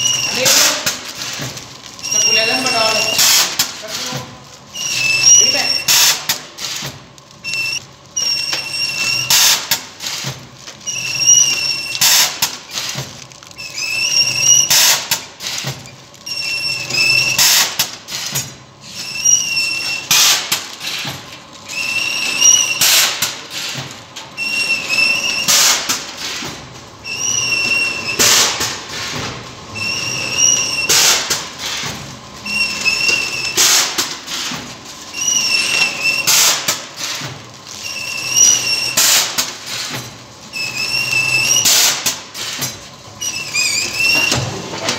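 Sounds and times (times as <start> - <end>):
packing machine cycling: 0.0 - 44.9.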